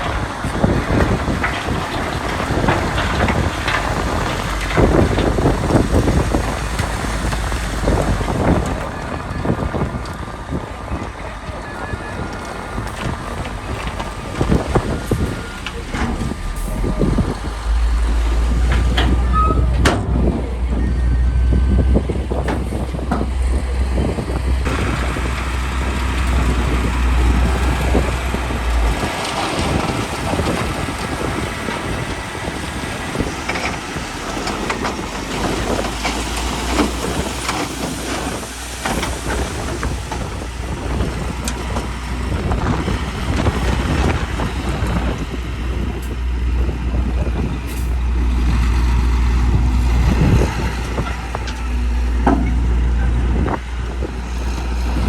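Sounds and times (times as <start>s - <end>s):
low diesel engine drone: 0.0s - 55.0s.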